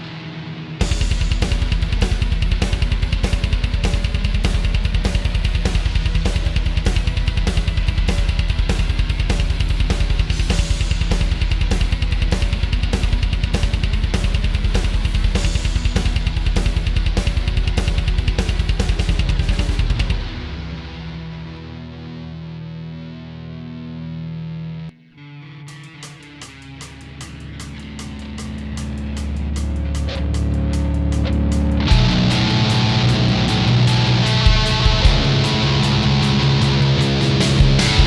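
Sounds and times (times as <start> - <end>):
drum-led music with fast beat: 0.8 - 20.3, 26.0 - 38.0.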